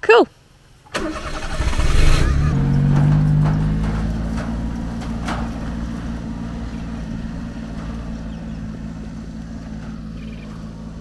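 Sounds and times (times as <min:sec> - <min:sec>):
small truck engine running: 0:00.9 - 0:11.0.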